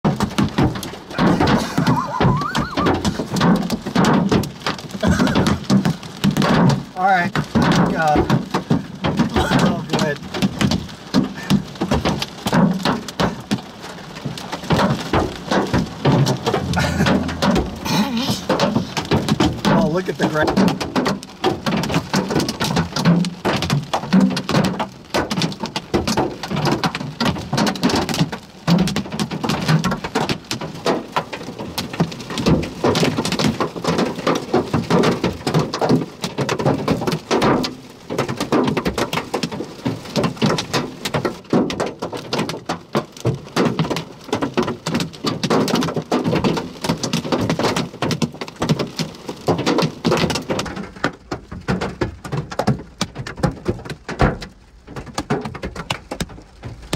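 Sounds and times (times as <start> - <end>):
hail clattering: 0.0 - 56.9
rain hissing: 0.1 - 52.8.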